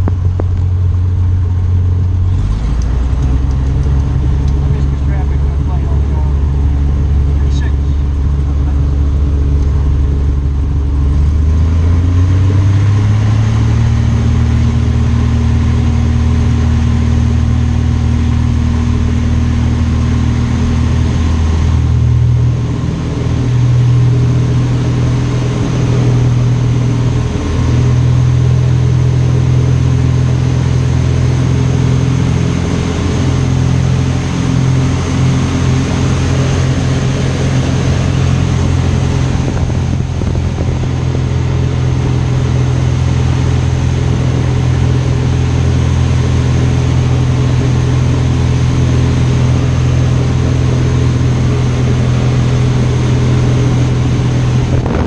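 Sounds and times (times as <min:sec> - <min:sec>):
plane piston engine and propeller: 0:00.0 - 0:55.0.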